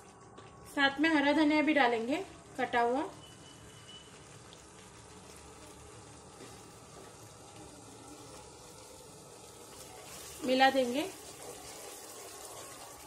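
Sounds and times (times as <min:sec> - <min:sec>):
gravy sizzling in a pot: 0:00.0 - 0:13.0.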